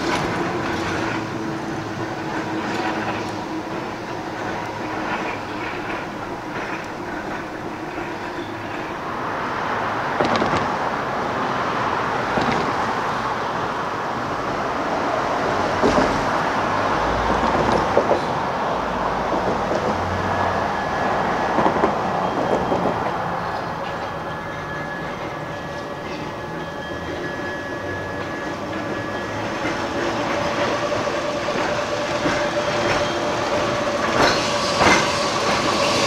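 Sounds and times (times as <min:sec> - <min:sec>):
trolley wheels rumbling on rail: 0:00.0 - 0:36.0.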